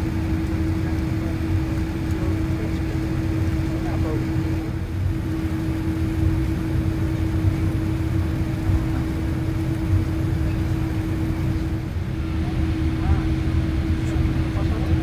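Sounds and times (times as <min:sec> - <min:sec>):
aircraft cabin engine rumble: 0:00.0 - 0:15.0
constant hum: 0:00.0 - 0:15.0.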